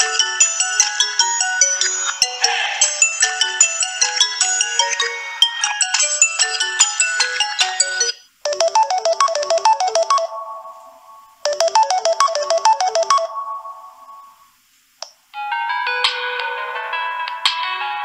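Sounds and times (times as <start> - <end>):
other phone ringtones: 0.0 - 14.4
phone ringtone bright notes: 0.0 - 14.5.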